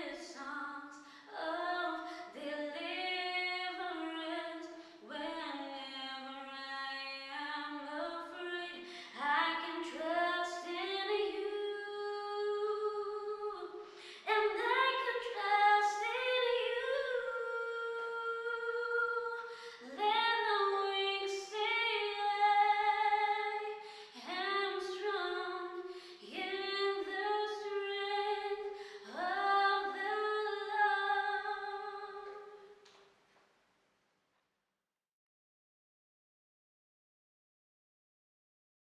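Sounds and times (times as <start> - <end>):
woman singing unaccompanied: 0.0 - 32.6.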